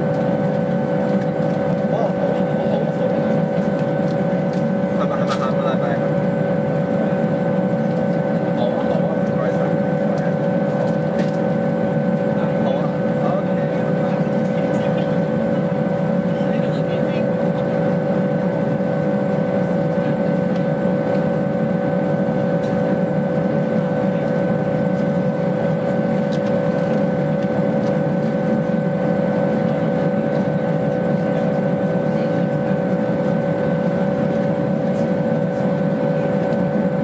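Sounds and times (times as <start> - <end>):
constant turbine hum: 0.0 - 37.0.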